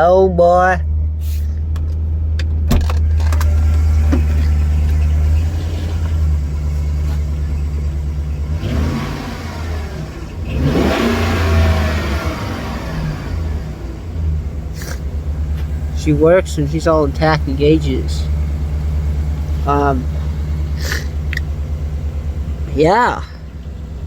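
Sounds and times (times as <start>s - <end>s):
van engine revving: 0.0s - 24.0s.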